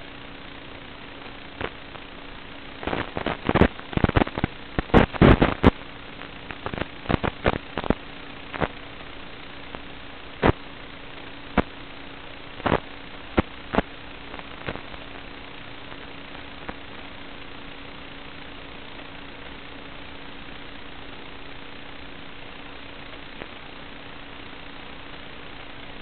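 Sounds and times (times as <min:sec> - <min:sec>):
crackling static: 0:00.0 - 0:26.0
steady hiss: 0:00.0 - 0:26.0.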